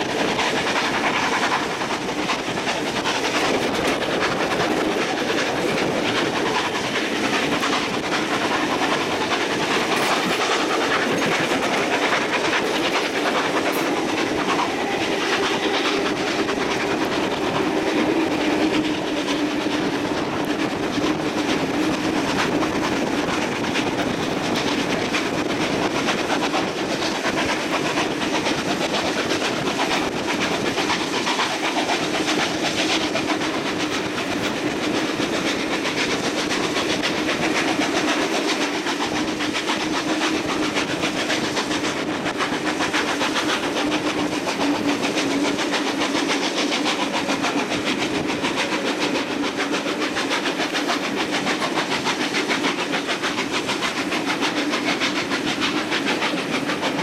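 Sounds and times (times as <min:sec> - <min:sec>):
steam locomotive working: 0:00.0 - 0:57.0
train wheels clattering over rails: 0:00.0 - 0:57.0.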